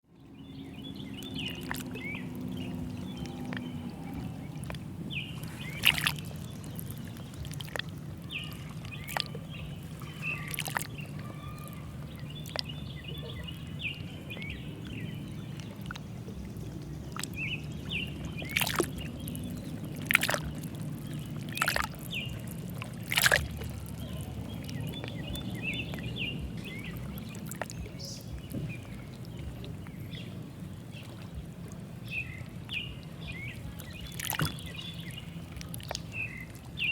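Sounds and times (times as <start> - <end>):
birds chirping: 0.1 - 36.9
lake water lapping: 0.1 - 36.9
steady low rumble: 0.1 - 36.9
small water splashes: 0.2 - 36.9.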